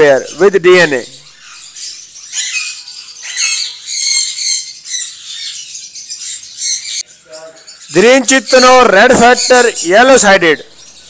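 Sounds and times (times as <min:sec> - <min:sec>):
parrots squawking and chirping: 0:00.0 - 0:11.0.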